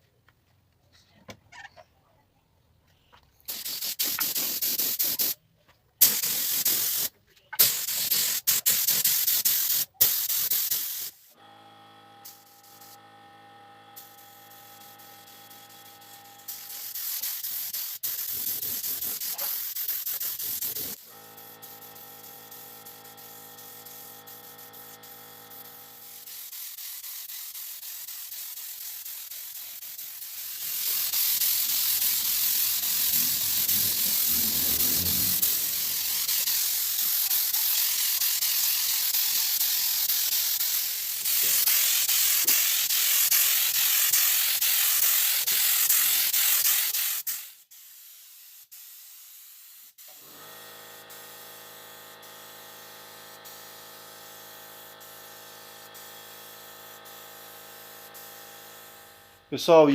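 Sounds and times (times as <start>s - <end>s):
spray hissing: 3.5s - 5.4s, 6.0s - 11.4s, 12.2s - 13.0s, 14.0s - 59.8s.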